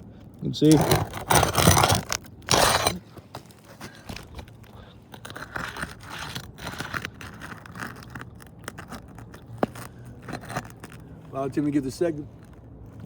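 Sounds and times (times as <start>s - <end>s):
roof shingles scraping: 0.5s - 12.6s.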